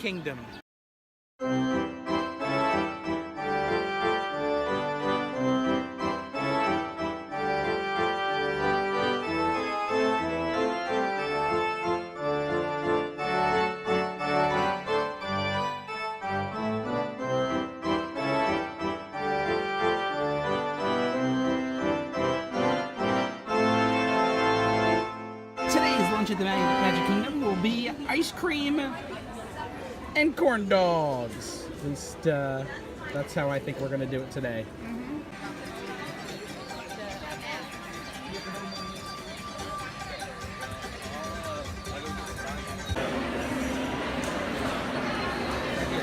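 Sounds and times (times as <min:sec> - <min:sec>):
organ-like keyboard music: 0:01.4 - 0:29.0, 0:33.9 - 0:46.0.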